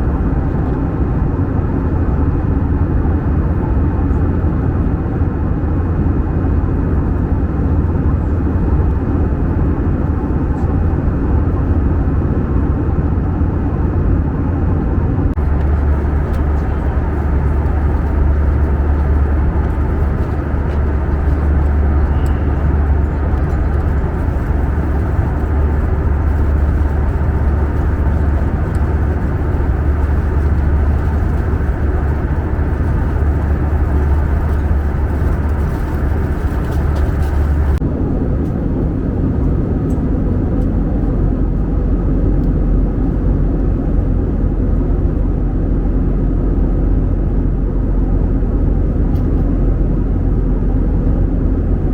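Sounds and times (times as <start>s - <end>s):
airplane cabin drone: 0.0s - 51.9s.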